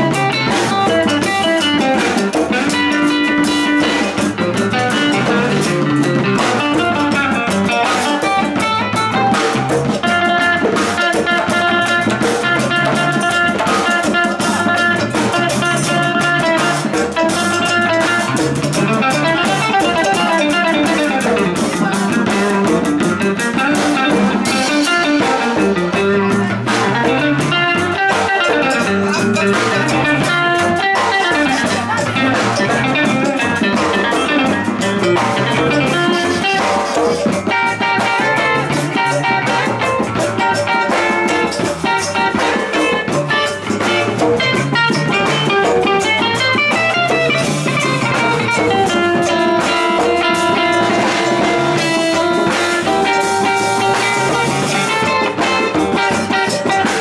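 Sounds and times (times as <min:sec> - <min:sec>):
electric guitars playing: 0:00.0 - 0:57.0
hand drumming on djembes: 0:00.0 - 0:57.0.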